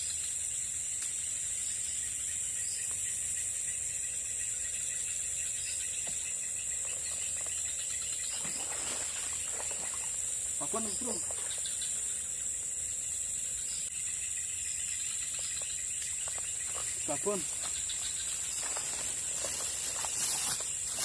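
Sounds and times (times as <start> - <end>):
shrill insect chorus: 0.0 - 21.0.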